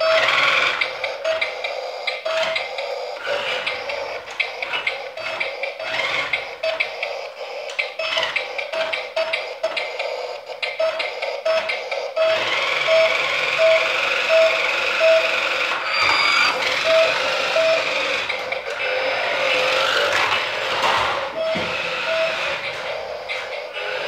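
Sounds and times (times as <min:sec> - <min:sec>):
electronic beeping: 0:00.0 - 0:18.6, 0:21.4 - 0:24.0
toy motor and gears whirring: 0:00.0 - 0:24.0.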